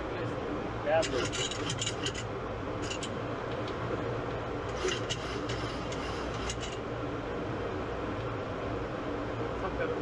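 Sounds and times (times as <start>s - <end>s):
airflow and air conditioning rush: 0.0s - 10.0s
low steady hum: 0.0s - 10.0s.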